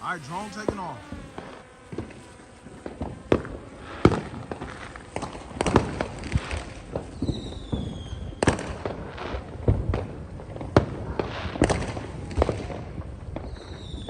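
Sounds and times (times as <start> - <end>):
fireworks banging and popping: 0.0 - 14.0.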